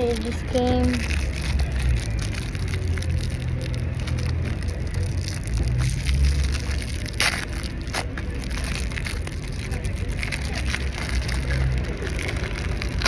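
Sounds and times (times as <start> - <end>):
plastic packaging crinkling: 0.0 - 13.0
steady low rumble: 0.0 - 13.0.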